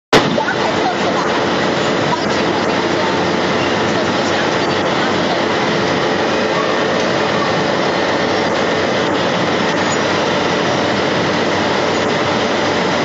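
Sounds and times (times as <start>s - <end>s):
conveyor belt machinery running: 0.1s - 13.0s.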